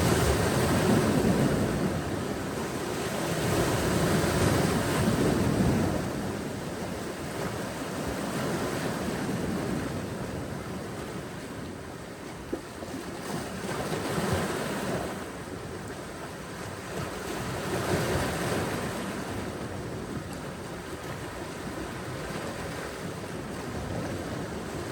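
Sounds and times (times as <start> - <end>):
ocean waves washing onto beach: 0.0 - 24.9.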